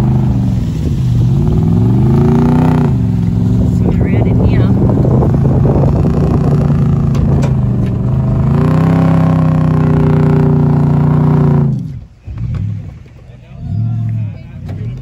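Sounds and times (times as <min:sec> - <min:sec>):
engine working hard: 0:00.0 - 0:15.0.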